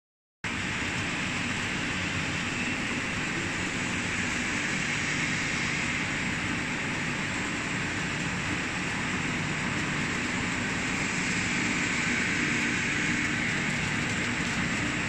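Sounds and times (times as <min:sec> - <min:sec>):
conveyor hiss and rumble: 0:00.5 - 0:15.0.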